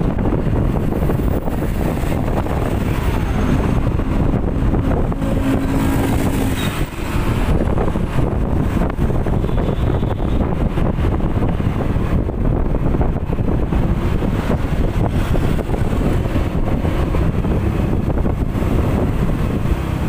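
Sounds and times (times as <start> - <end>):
vehicle rumble: 0.0 - 20.0
wind buffeting microphone: 0.0 - 20.0.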